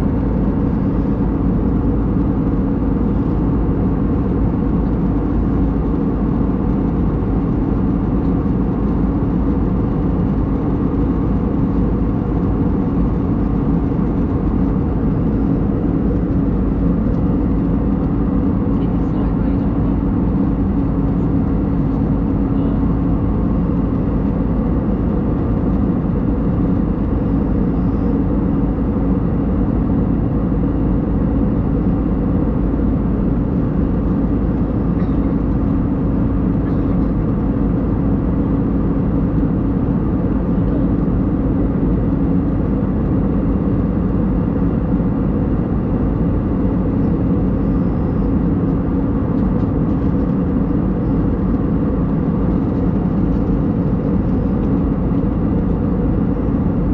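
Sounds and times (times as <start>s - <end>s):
airliner cabin drone: 0.0s - 56.9s
steady low hum: 0.0s - 56.9s.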